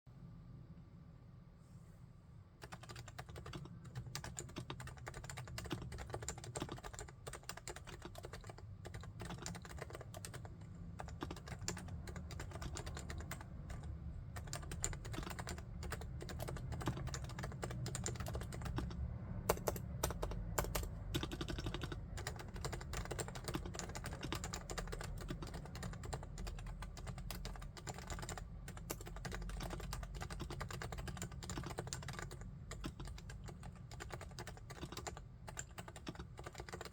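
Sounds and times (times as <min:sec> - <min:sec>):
keyboard typing: 0:02.6 - 0:36.9.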